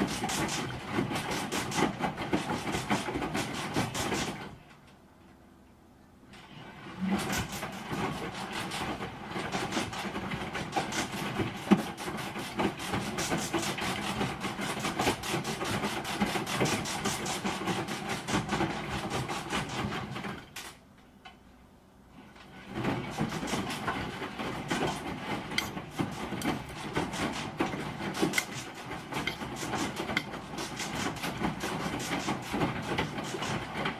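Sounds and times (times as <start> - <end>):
washing machine rattling and knocking: 0.0 - 5.1, 6.4 - 21.0, 22.2 - 33.9.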